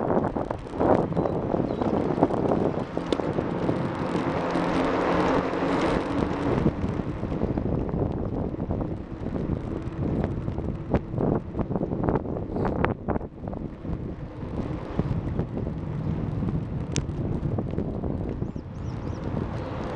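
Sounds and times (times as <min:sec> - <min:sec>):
bicycle clicks and rattles: 0:00.0 - 0:19.9
bicycle rolling noise: 0:00.0 - 0:19.9
wind rushing over microphone: 0:00.0 - 0:19.9.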